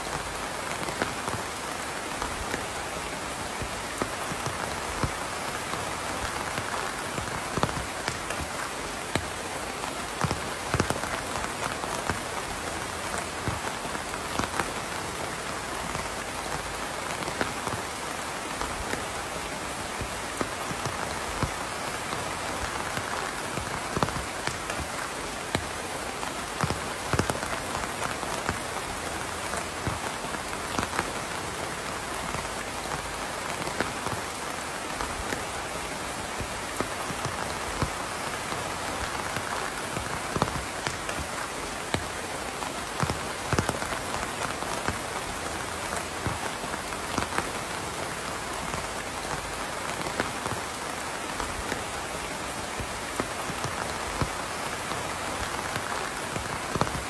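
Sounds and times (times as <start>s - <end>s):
raindrops hitting close by: 0.0s - 57.0s
steady rain hiss: 0.0s - 57.0s.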